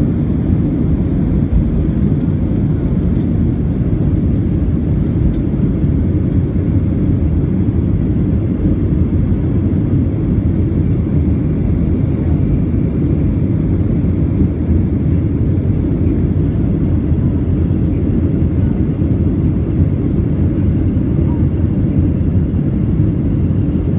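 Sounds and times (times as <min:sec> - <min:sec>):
airplane cabin jet noise: 0:00.0 - 0:23.9.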